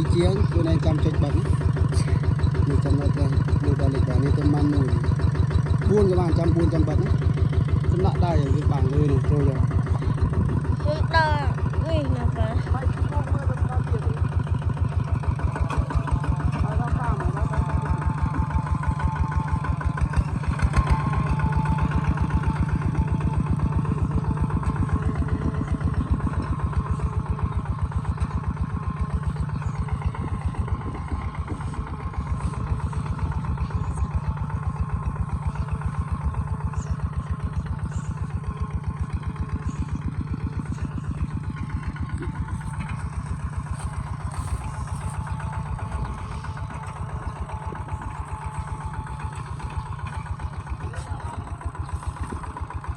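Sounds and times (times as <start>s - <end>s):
diesel tractor engine chugging: 0.0s - 52.9s.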